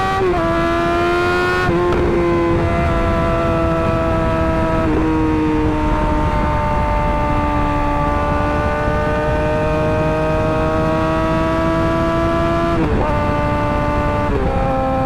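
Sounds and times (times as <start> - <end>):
motorcycle engine revs climbing: 0.0 - 15.0.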